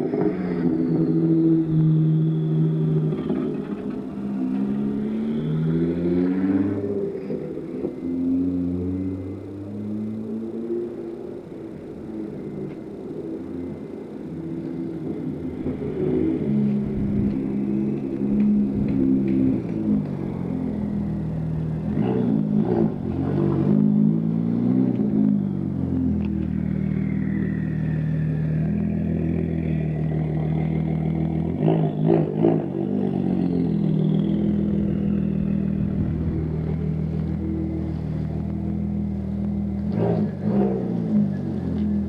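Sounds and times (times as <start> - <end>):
car engine revving through exhaust: 0.0 - 42.0.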